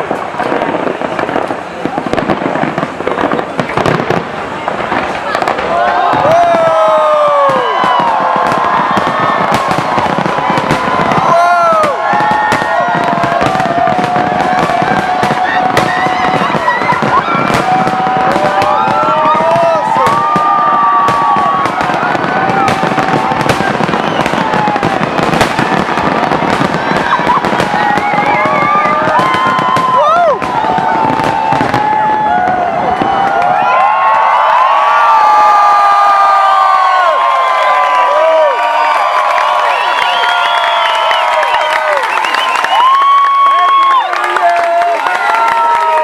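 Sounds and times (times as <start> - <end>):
firework bangs and crackles: 0.0 - 46.0
crowd cheering and whooping: 4.9 - 46.0.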